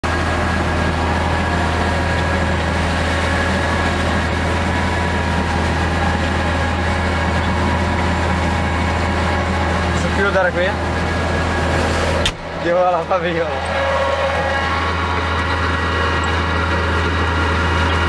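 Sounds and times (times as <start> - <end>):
tractor engine running under load: 0.0 - 18.0.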